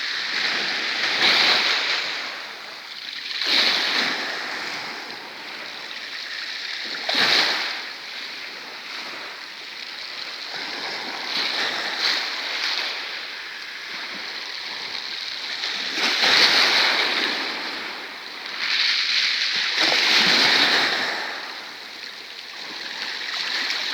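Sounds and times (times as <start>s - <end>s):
sea waves breaking on shore: 0.0s - 23.9s.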